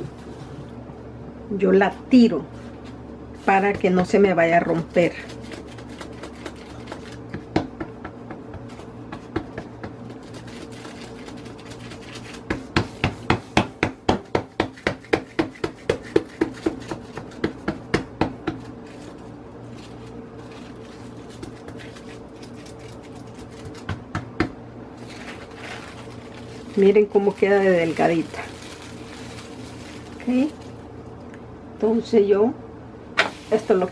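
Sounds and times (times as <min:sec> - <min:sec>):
steady low hum: 0:00.0 - 0:33.9
hands patting dough: 0:03.4 - 0:30.6.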